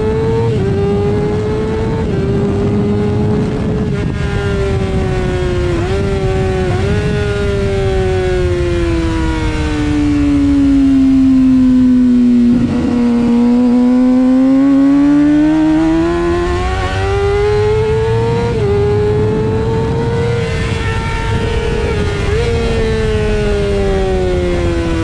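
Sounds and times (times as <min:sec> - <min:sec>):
motorcycle engine revving: 0:00.0 - 0:25.0
wind rush: 0:00.0 - 0:25.0.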